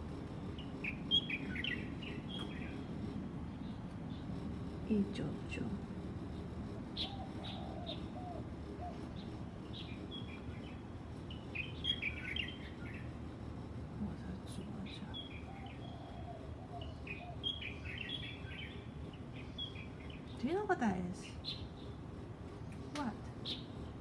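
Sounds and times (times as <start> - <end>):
low background rumble: 0.0 - 24.0
small birds chirping: 0.2 - 24.0.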